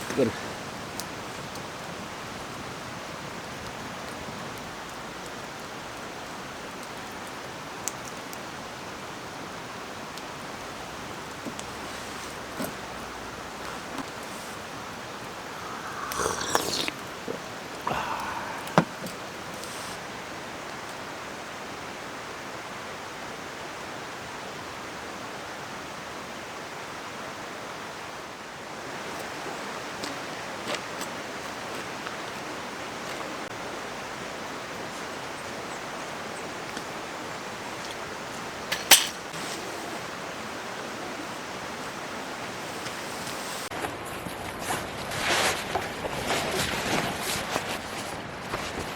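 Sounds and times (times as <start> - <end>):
stream water rushing: 0.0 - 43.7.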